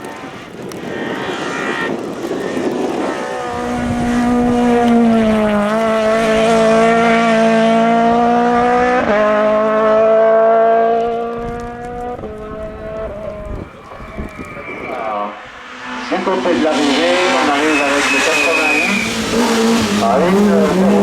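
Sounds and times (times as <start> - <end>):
gear changes: 0.0 - 21.0
racing car engine at high revs: 0.0 - 21.0.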